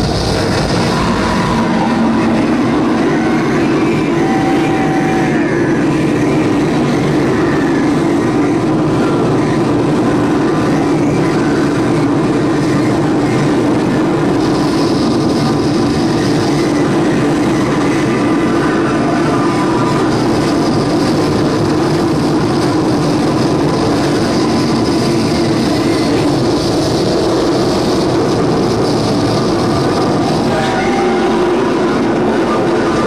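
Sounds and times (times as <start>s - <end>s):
dense rumbling noise: 0.0s - 33.0s.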